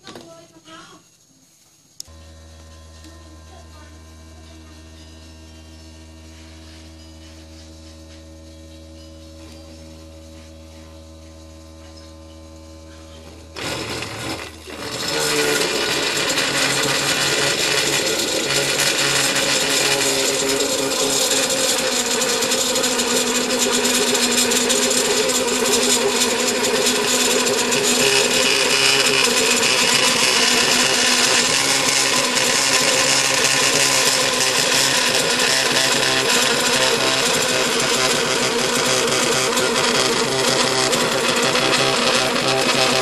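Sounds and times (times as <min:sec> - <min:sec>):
motor cutter grinding plastic: 0:02.0 - 0:43.0.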